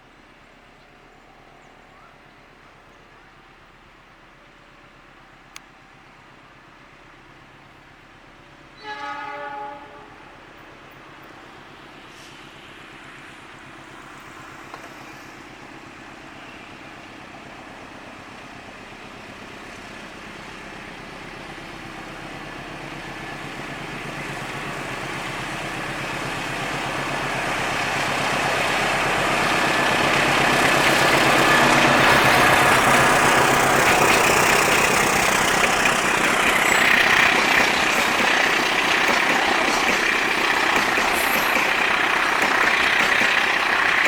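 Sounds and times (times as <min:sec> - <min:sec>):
diesel locomotive engine drone: 0:00.0 - 0:44.0.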